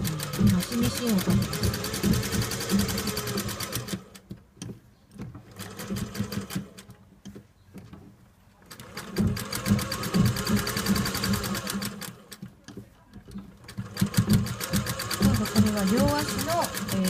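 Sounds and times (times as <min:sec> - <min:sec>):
sewing machine stitching: 0:00.0 - 0:04.3, 0:05.5 - 0:06.9, 0:08.6 - 0:17.0.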